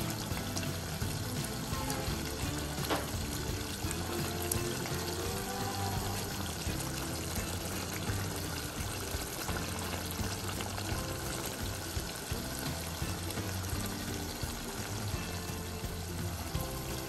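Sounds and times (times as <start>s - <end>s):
background music with low notes: 0.0s - 17.0s
food sizzling in a pan: 0.0s - 17.0s.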